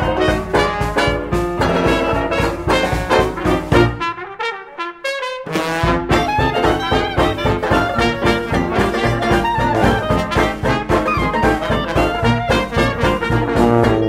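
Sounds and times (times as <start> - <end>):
upbeat jazzy brass music: 0.0 - 14.0.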